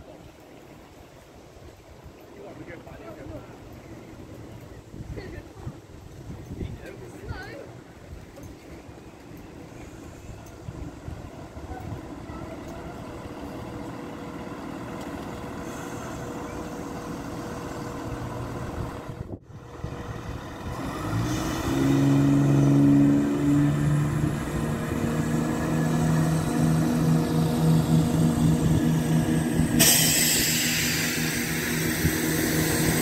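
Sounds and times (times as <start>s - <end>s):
train wheels rumbling on track: 0.0s - 33.0s
low diesel engine hum: 5.7s - 33.0s.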